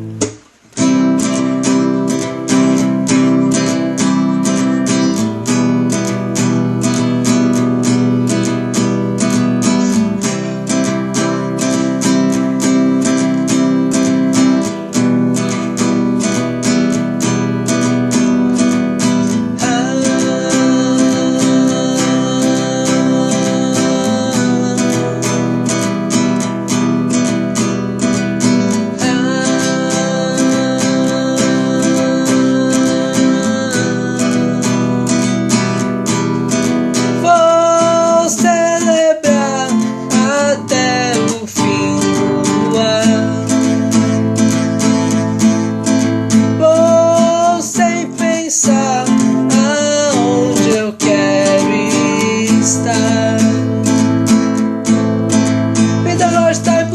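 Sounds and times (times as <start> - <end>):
strummed acoustic guitar: 0.0 - 56.9.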